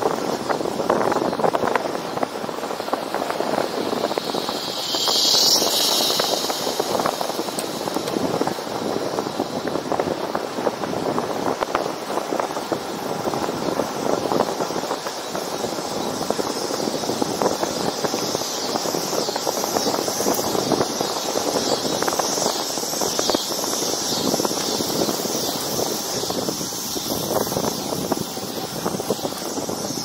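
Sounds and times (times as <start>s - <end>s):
bicycle wind and tyre rush: 0.0s - 30.0s.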